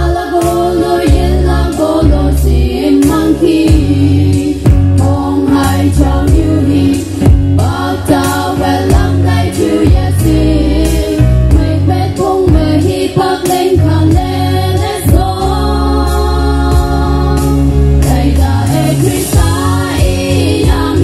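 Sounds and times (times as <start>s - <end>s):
amplified backing music: 0.0s - 21.0s
female vocal group singing: 0.0s - 21.0s.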